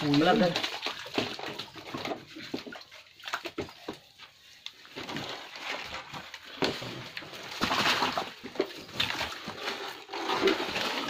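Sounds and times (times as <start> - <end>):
muddy water splashing: 0.0 - 11.0.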